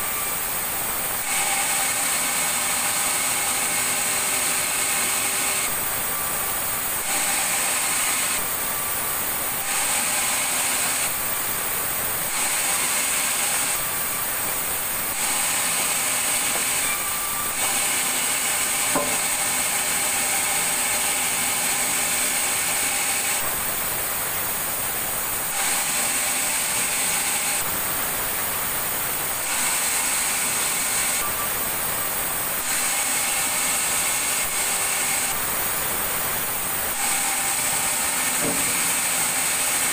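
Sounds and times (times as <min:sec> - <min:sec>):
sawmill saw cutting timber: 0:00.0 - 0:39.9.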